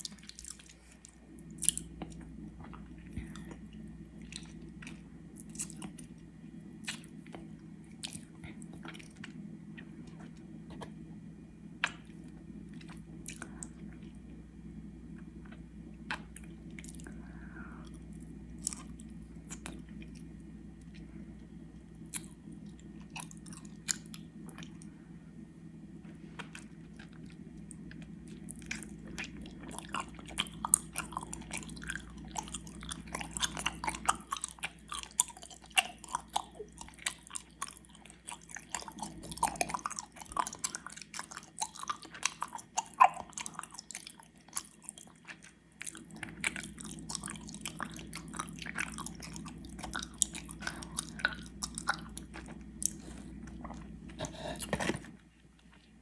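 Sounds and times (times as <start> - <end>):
sticky chewing and mouth smacks: 0.0 - 6.2, 6.8 - 11.0, 11.8 - 14.1, 17.8 - 21.1, 22.0 - 24.9, 26.2 - 56.0.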